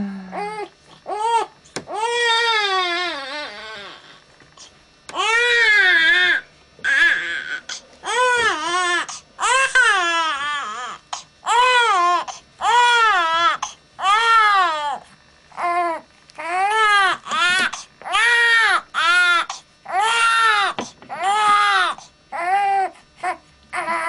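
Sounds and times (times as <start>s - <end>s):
baby crying: 0.4s - 4.2s, 5.2s - 15.0s, 15.6s - 24.0s.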